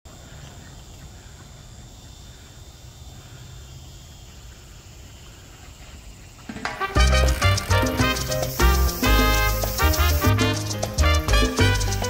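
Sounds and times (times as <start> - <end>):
high insect trill: 0.1 - 12.0.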